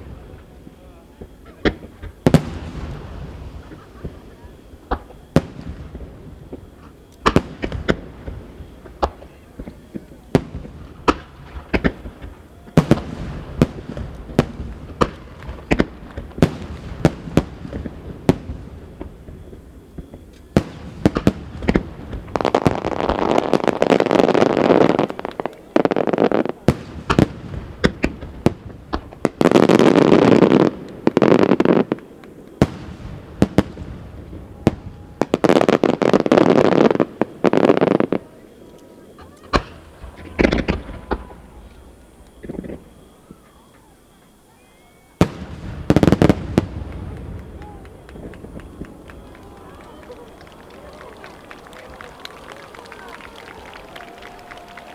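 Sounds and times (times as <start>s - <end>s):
firework shells booming: 0.0s - 44.4s, 45.0s - 54.9s.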